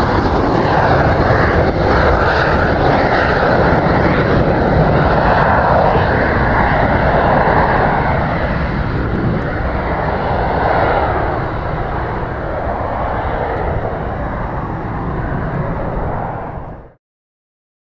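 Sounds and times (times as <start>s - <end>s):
jet taking off: 0.0s - 17.0s.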